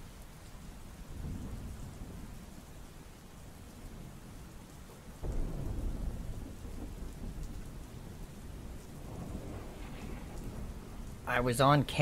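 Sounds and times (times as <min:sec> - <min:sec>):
steady rain: 0:00.0 - 0:12.0
thunder rumbling: 0:01.0 - 0:04.4, 0:05.0 - 0:12.0.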